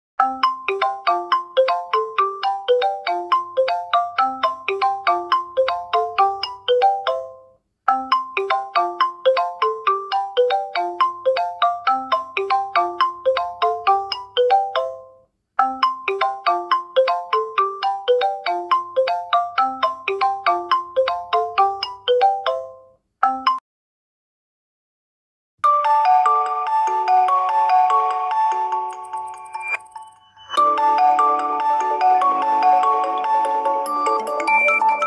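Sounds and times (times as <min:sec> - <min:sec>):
phone ringtone marimba melody: 0:00.2 - 0:23.6, 0:25.6 - 0:35.0.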